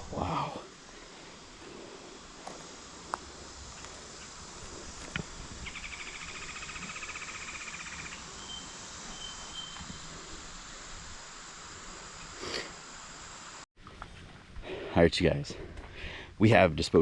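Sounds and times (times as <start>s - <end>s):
high insect hiss: 0.0s - 13.7s.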